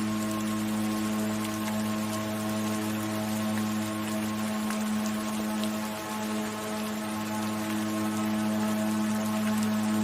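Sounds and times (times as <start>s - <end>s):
soft rain patter: 0.0s - 10.0s.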